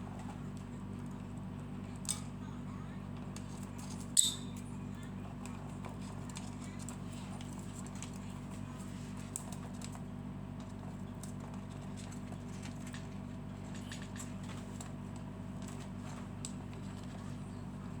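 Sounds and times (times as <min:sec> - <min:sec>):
birds pecking and clicking: 0:00.0 - 0:02.4, 0:03.1 - 0:18.0
steady low hum: 0:00.0 - 0:18.0.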